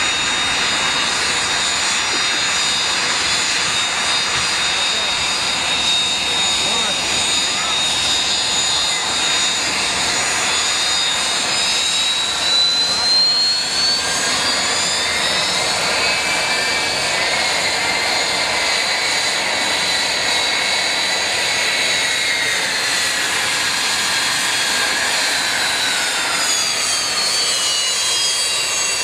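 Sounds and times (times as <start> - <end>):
high whine sliding in pitch: 0.0 - 29.0
jet engines roaring: 0.0 - 29.0.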